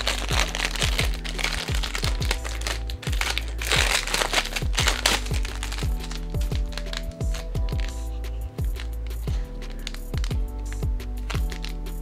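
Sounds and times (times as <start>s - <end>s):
plastic packaging crinkling: 0.0s - 8.0s, 8.6s - 11.8s
background music with steady beat: 0.0s - 12.0s.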